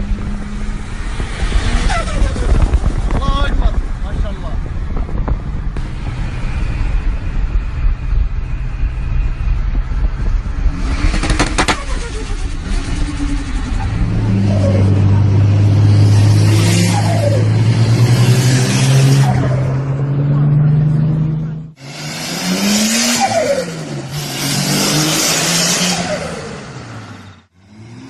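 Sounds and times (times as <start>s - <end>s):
turbocharged car engine revving: 4.9s - 28.0s.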